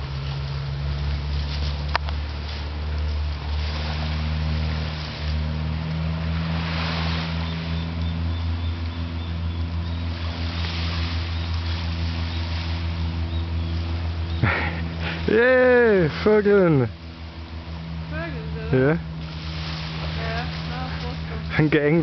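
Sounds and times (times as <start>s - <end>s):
engine droning steadily: 0.0s - 22.0s.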